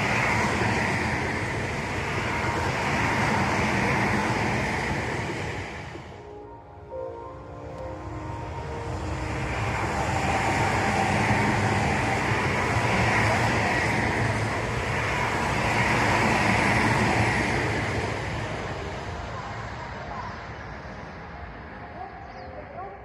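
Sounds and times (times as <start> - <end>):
rail noise: 0.0 - 23.0
train passing: 0.0 - 23.0.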